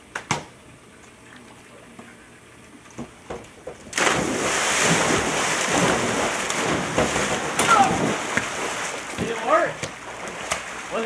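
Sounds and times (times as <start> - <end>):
pool water splashing: 0.7 - 11.0.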